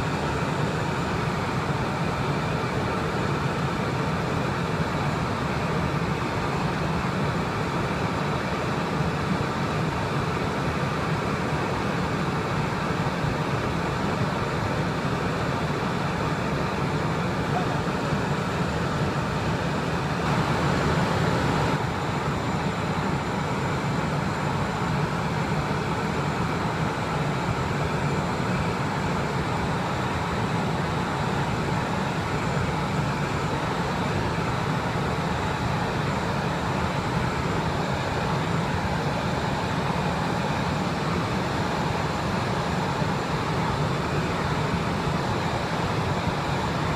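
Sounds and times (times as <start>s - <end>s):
airflow rushing over cockpit: 0.0s - 46.9s
low jet engine hum: 0.0s - 46.9s.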